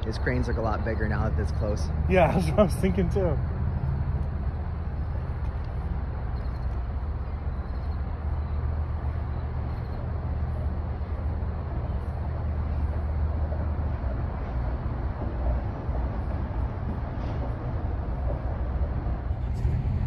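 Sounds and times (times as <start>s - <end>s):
ship engine low rumble: 0.0s - 20.0s.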